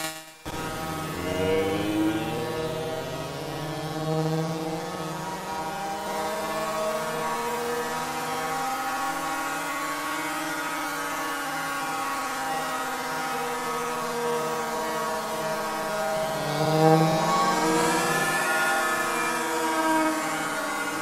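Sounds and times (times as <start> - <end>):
electronic drone of layered tones: 0.0 - 21.0.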